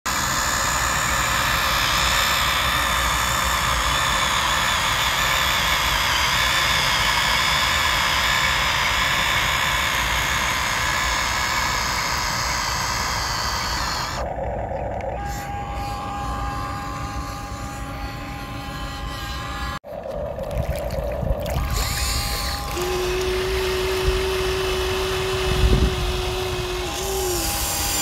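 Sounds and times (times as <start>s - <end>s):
electric motor whine: 0.1s - 14.4s, 15.0s - 19.8s, 21.6s - 28.0s.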